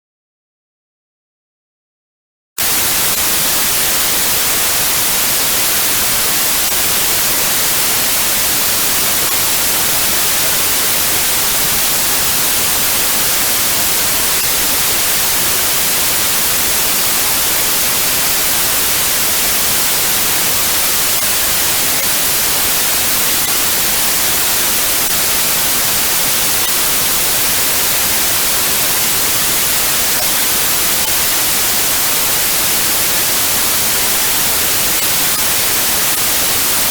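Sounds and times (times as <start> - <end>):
white noise hiss: 2.6 - 36.9.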